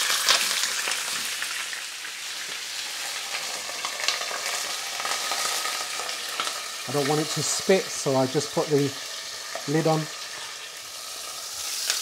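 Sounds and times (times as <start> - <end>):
steak sizzling in a pan: 0.0 - 12.0.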